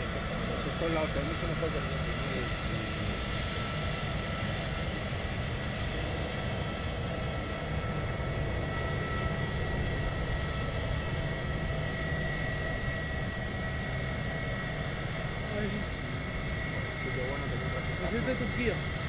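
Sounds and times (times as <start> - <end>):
high jet engine whine: 0.0 - 19.0
jet engines rumbling: 0.0 - 19.0.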